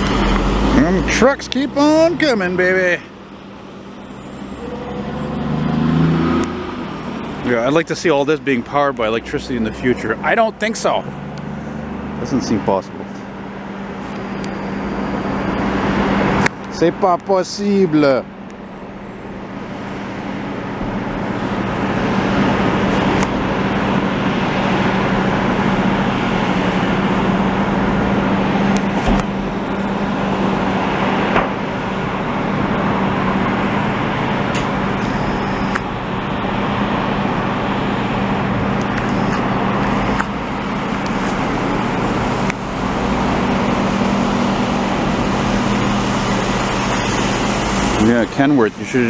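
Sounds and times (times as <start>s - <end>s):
heavy diesel machinery running: 0.0s - 16.5s, 17.6s - 49.0s.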